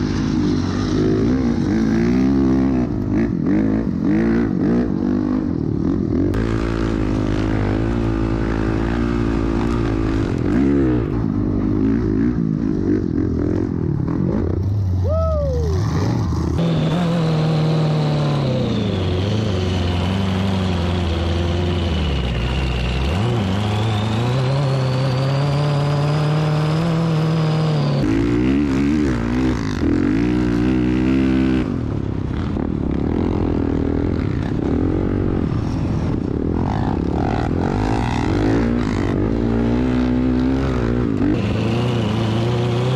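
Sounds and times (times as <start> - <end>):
dirt bike engine revving: 0.0 - 14.7, 15.6 - 42.9
smoother engine with high whine: 0.0 - 42.9.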